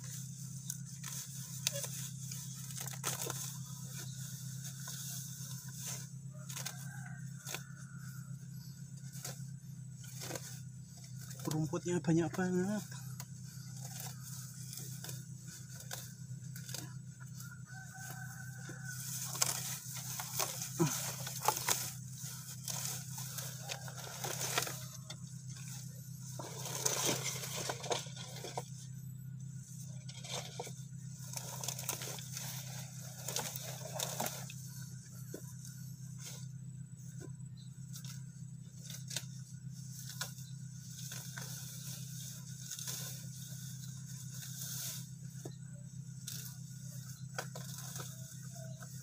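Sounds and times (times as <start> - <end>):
rustling and tearing of weeds: 0.0 - 28.9, 29.6 - 36.5, 37.9 - 49.0
steady low hum: 0.0 - 49.0.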